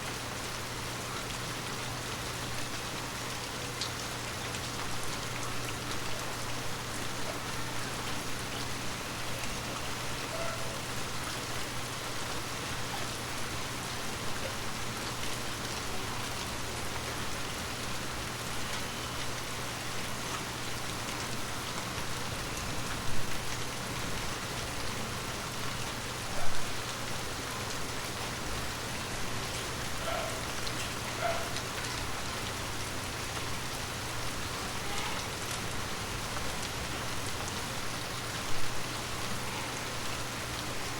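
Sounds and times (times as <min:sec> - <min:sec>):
rain on leaves: 0:00.0 - 0:40.9.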